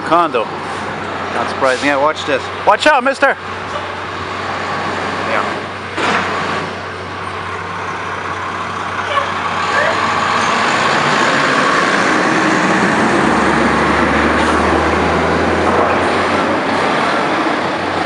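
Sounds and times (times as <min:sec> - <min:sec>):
diesel truck low rumble: 0:00.0 - 0:18.0
fire truck engine driving past: 0:00.0 - 0:18.0.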